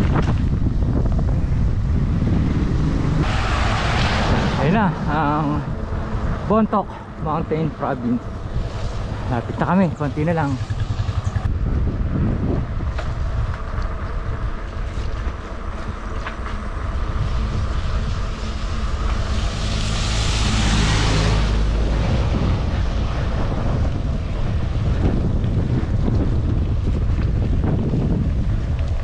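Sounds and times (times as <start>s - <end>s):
passing vehicle engine and tyres: 0.0s - 29.0s
wind buffeting microphone: 0.0s - 29.0s.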